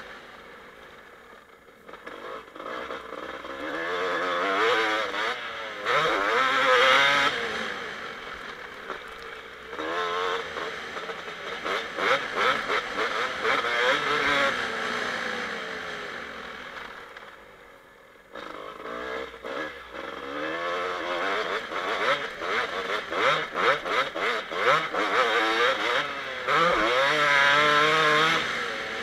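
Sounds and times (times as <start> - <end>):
motocross engine revving: 1.8 - 17.1, 18.3 - 29.0.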